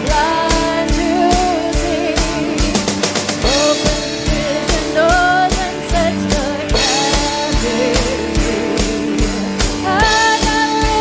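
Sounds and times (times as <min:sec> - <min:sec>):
electric guitar: 0:00.0 - 0:11.0
keyboard: 0:00.0 - 0:11.0
steady drum beat: 0:00.0 - 0:11.0
woman singing: 0:00.0 - 0:11.0.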